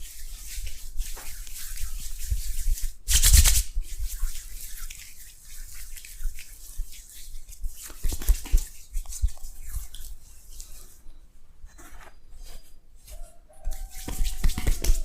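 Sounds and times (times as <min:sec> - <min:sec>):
hands rubbing skin: 0:00.0 - 0:11.0, 0:12.0 - 0:15.0.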